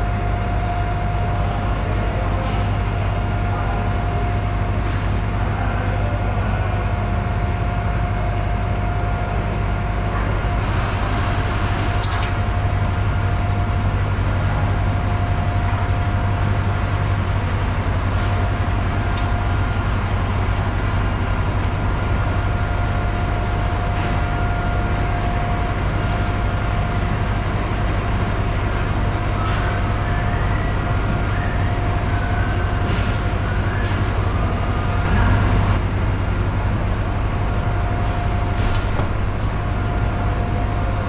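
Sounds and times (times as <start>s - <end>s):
machinery low drone with whine: 0.0s - 41.0s.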